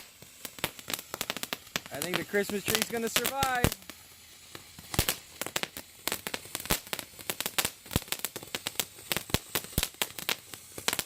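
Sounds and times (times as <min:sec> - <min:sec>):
firework popping and crackling: 0:00.0 - 0:11.0.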